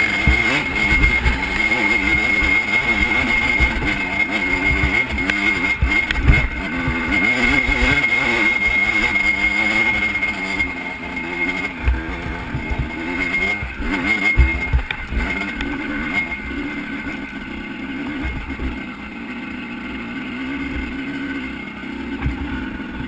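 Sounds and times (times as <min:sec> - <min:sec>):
off-road motorcycle engine revving: 0:00.0 - 0:23.0.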